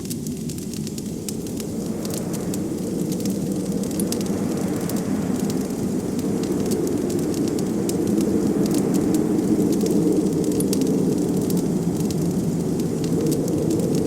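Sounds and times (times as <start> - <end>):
wood fire crackling: 0.0 - 14.0
blizzard wind rushing: 0.2 - 14.0.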